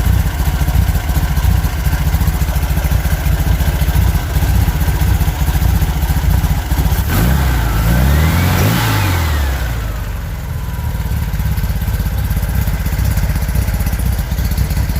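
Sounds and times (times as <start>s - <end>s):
engine idling and revving: 0.0s - 14.9s.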